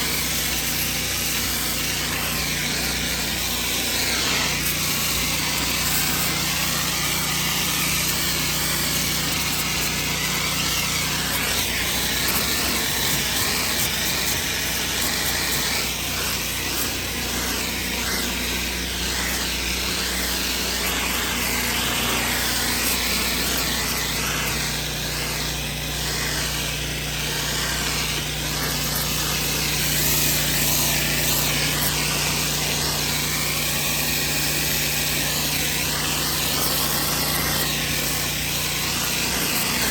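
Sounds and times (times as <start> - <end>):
high-pressure water spray: 0.0 - 39.9
pressure washer engine humming: 0.0 - 39.9.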